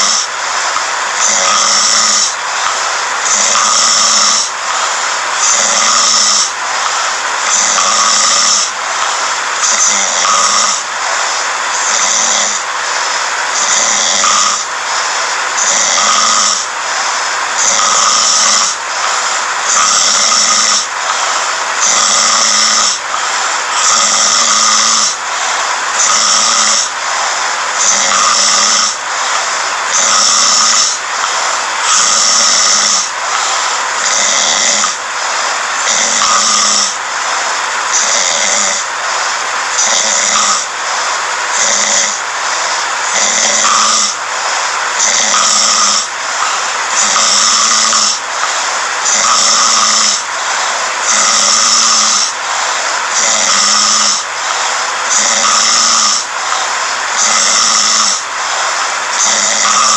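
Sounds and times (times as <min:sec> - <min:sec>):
man snoring: 0:00.0 - 0:59.9.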